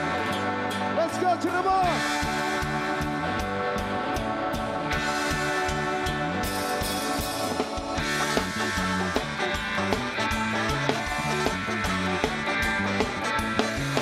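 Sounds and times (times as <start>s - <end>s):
drum kit beat: 0.0s - 14.0s
ska band playing: 0.0s - 14.0s.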